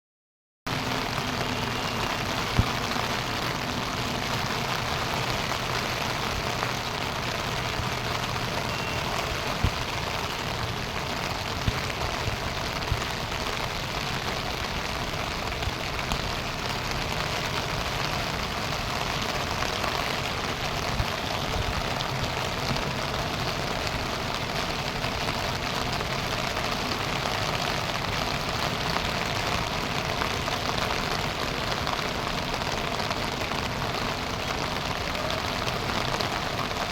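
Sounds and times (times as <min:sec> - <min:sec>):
heavy rain and rushing water: 0:00.7 - 0:36.9.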